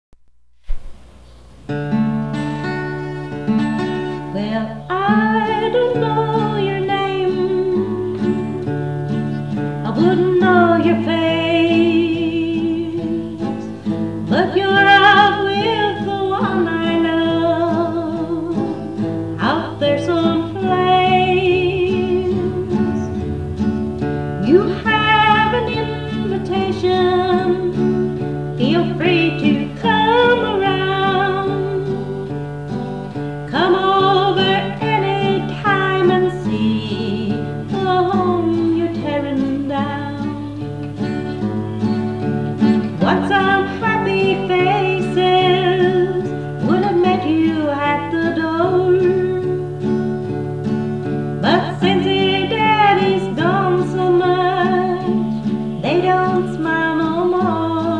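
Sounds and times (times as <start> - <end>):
acoustic guitar: 0.6 - 57.9
woman singing a country ballad: 3.6 - 57.9.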